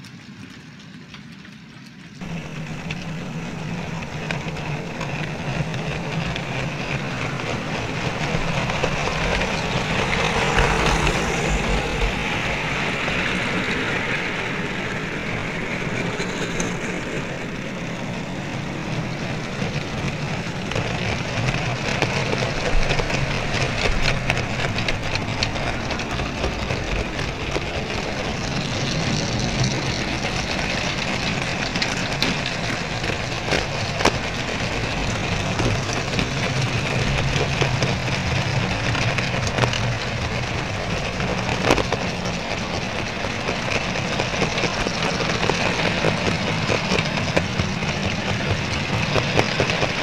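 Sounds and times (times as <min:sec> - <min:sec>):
model train rattling rumble: 0:00.0 - 0:50.0
low hum: 0:00.9 - 0:50.0.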